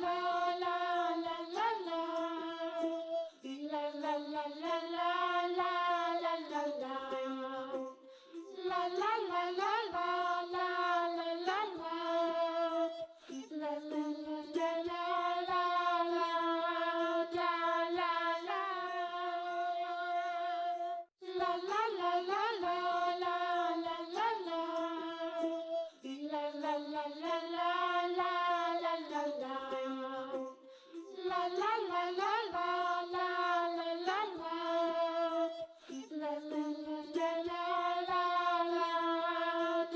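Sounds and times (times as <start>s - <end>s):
child singing simple melody: 0.0s - 39.9s.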